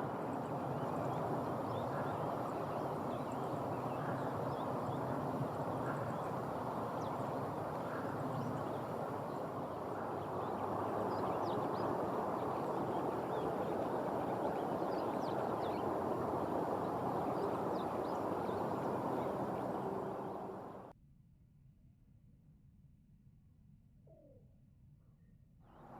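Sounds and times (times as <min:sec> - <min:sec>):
faint high bird calls: 0:00.0 - 0:20.9
steady rushing noise: 0:00.0 - 0:20.9.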